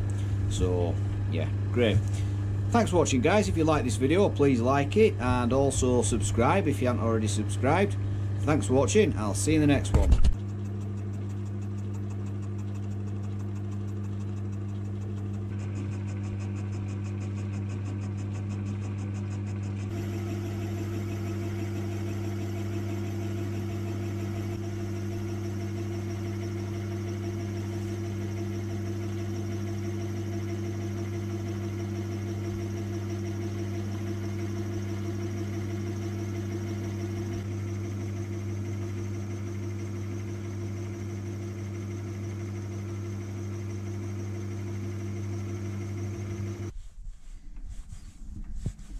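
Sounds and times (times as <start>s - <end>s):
lathe motor hum: 0.0s - 46.7s.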